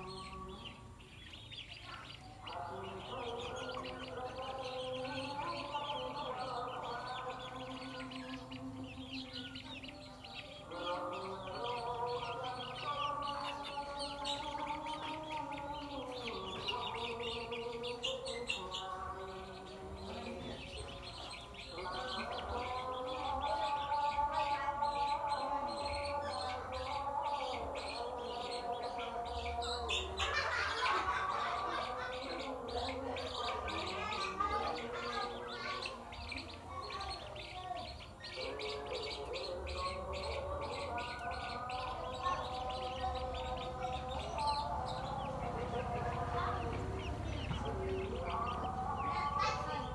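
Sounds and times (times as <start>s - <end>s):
baby chicks peeping: 0.0s - 49.9s.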